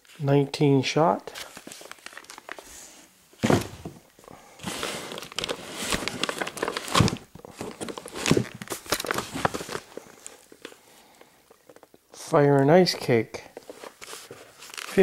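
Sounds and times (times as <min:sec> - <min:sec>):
packaging rustling and crinkling: 0:01.3 - 0:12.0, 0:13.5 - 0:15.0.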